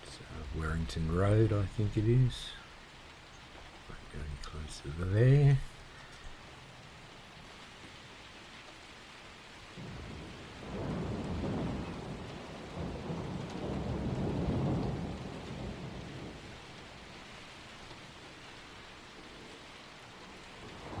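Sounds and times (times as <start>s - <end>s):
thunder rumbling: 0.0s - 2.9s, 4.0s - 7.6s, 8.9s - 21.0s
rain hissing: 0.0s - 21.0s.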